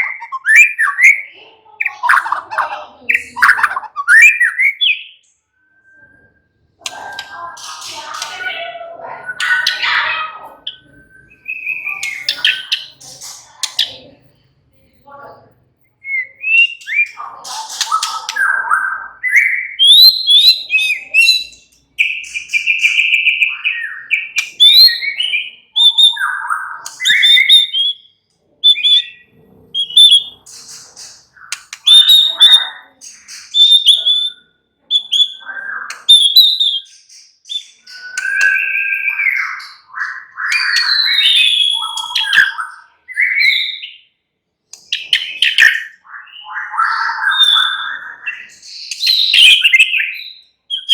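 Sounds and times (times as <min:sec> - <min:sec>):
bird singing whistles and chatter: 0:00.0 - 0:14.0, 0:16.0 - 0:44.1, 0:44.8 - 0:50.9.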